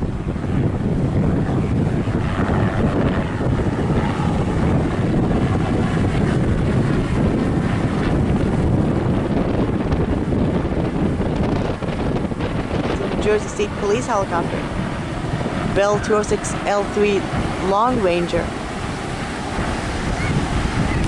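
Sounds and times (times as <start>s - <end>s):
helicopter flying past: 0.0s - 21.0s
wind buffeting microphone: 0.0s - 21.0s.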